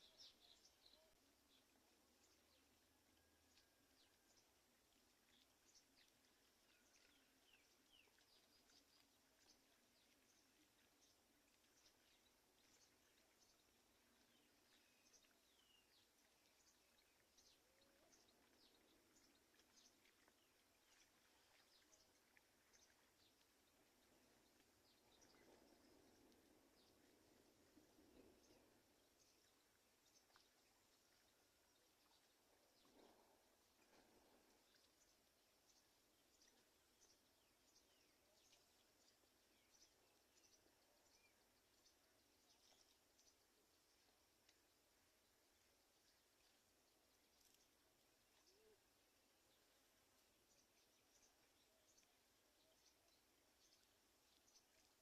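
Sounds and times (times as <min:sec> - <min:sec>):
birds chirping: 0:00.0 - 0:44.1.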